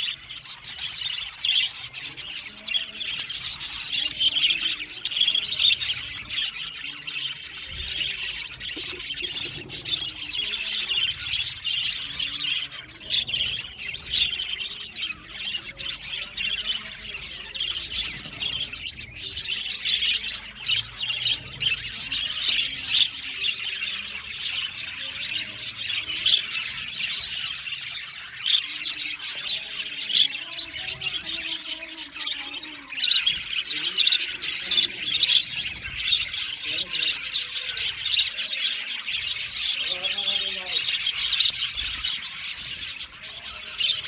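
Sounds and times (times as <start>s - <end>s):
budgerigars chattering: 0.0s - 44.0s.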